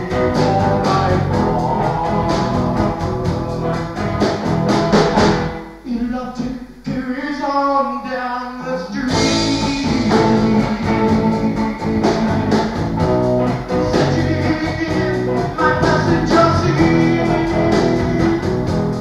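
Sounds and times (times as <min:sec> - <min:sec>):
rock band playing: 0:00.0 - 0:05.8, 0:09.1 - 0:19.0.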